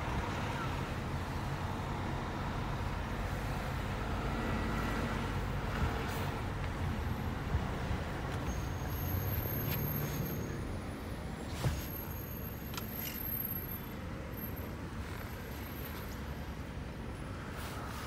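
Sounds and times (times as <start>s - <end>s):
car and traffic rumble: 0.0s - 18.0s.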